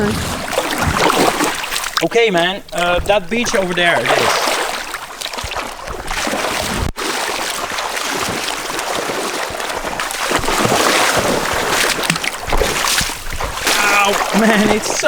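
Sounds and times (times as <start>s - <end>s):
water at shoreline: 0.0s - 15.0s.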